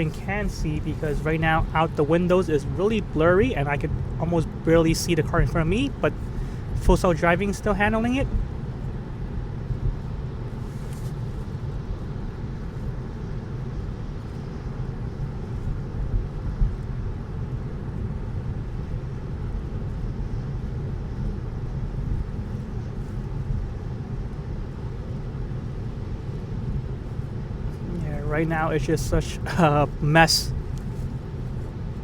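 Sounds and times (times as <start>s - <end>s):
road and tyre noise: 0.0s - 32.0s.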